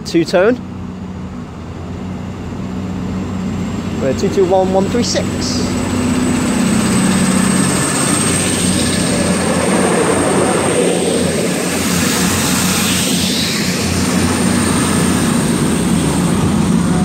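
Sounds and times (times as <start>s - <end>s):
diesel train engines droning: 0.0s - 17.0s.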